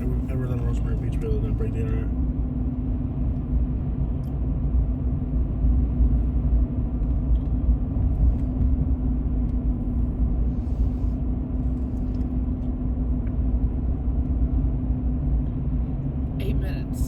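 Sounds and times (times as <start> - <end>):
constant hum: 0.0 - 17.0
tyres and engine rumbling: 0.0 - 17.0.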